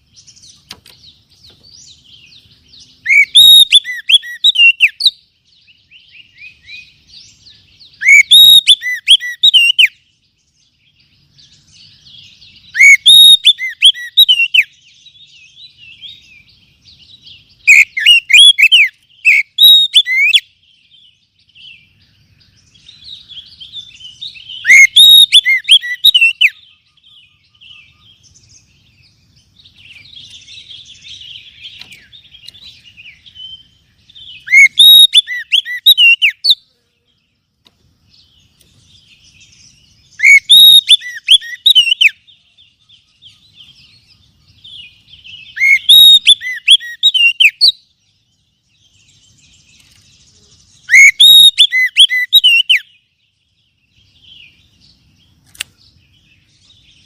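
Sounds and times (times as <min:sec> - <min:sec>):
bird twittering: 0:00.0 - 0:37.2, 0:38.1 - 0:57.0.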